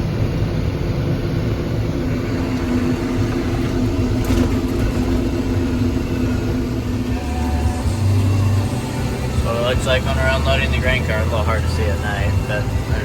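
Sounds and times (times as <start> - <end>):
heavy machinery engine rumbling: 0.0 - 13.0.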